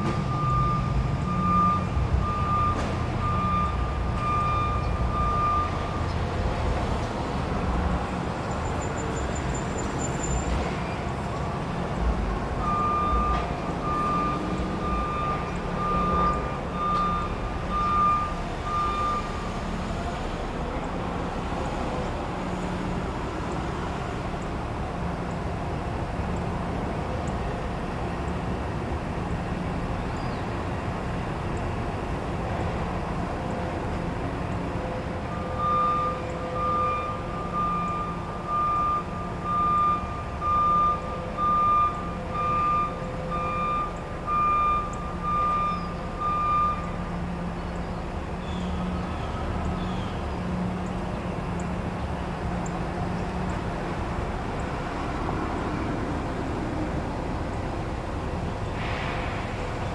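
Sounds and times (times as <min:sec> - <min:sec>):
truck reversing alarm beeps: 0:00.0 - 0:32.2, 0:32.8 - 0:59.9
background traffic: 0:00.0 - 0:59.9
engine humming: 0:00.0 - 0:59.9.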